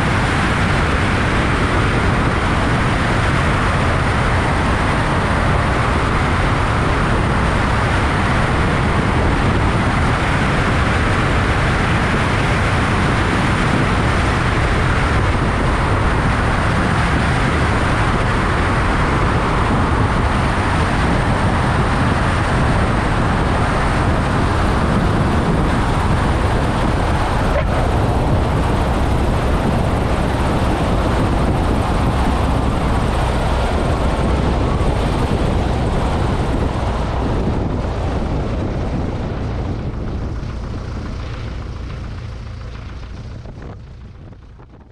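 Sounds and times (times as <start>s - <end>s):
airplane engine and propeller droning: 0.0s - 44.9s
wind rushing over microphone: 0.0s - 44.9s.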